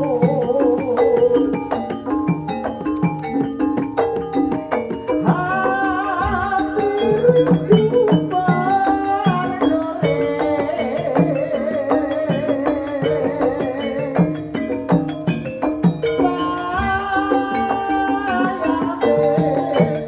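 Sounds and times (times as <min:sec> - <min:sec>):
hand drums playing: 0:00.0 - 0:20.0
metallophone strikes: 0:00.0 - 0:20.0
wavering held melody: 0:00.0 - 0:20.0.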